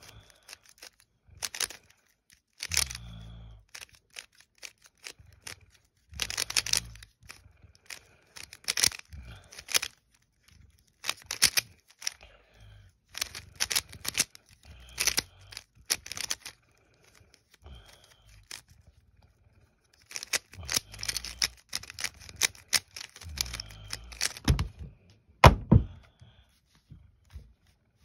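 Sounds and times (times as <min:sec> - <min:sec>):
speed cube clicking: 0:00.0 - 0:12.2, 0:13.1 - 0:18.8, 0:20.0 - 0:24.7.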